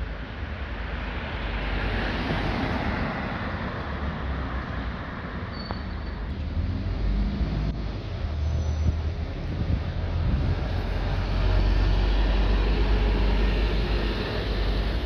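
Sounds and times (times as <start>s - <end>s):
road and tyre noise: 0.0s - 15.0s
bus engine rumbling: 1.3s - 15.0s.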